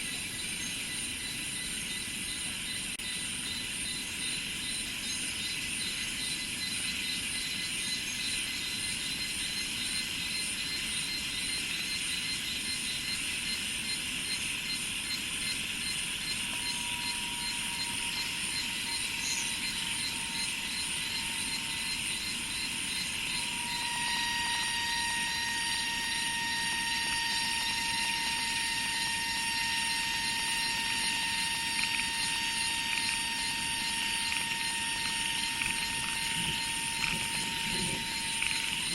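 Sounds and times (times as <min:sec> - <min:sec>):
insect buzzing: 0:00.0 - 0:38.9
insects chirping: 0:00.0 - 0:38.9
steady pitched hum: 0:00.0 - 0:38.9.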